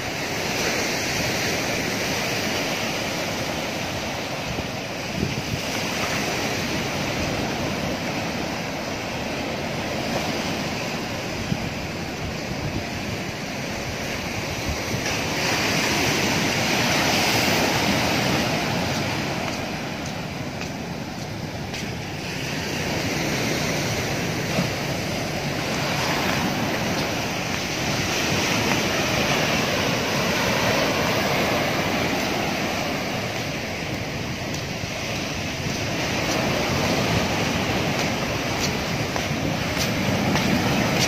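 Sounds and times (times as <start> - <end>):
heavy surf breaking on shore: 0.0 - 41.0
wind on microphone: 0.0 - 41.0.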